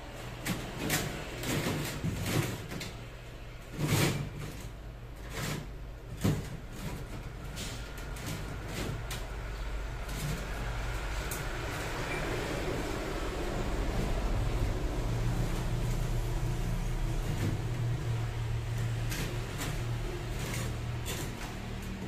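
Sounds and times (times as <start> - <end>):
objects knocking and clattering: 0.3 - 12.2, 15.5 - 22.0.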